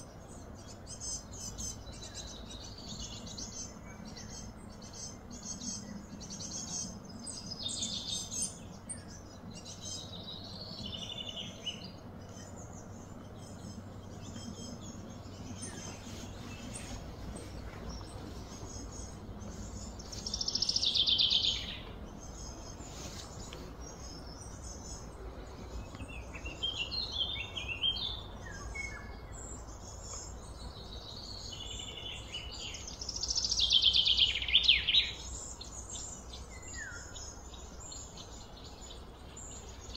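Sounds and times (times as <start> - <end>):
low hum: 0.0 - 33.0
small birds chirping: 0.0 - 39.9.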